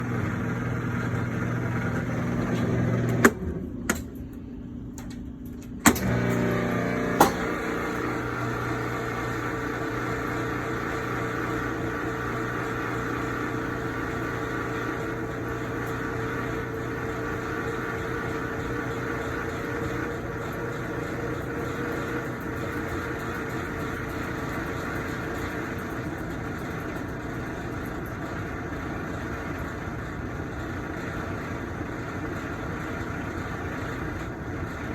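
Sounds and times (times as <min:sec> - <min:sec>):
washing machine grinding: 0:00.0 - 0:04.1, 0:05.8 - 0:34.9
droning hum: 0:00.0 - 0:30.6.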